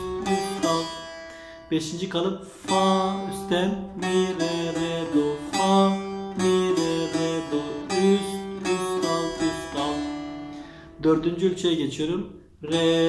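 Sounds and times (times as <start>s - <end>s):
plucked long-necked lute notes: 0.0s - 11.9s.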